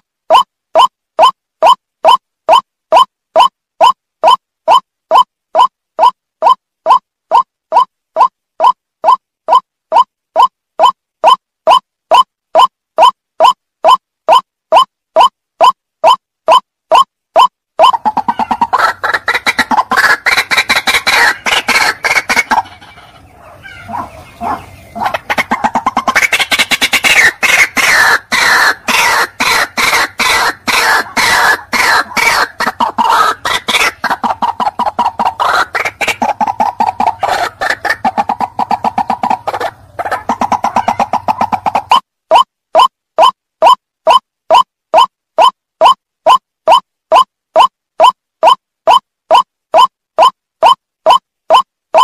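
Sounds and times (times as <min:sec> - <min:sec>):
bird calling rapid repeated notes: 0:00.0 - 0:52.0.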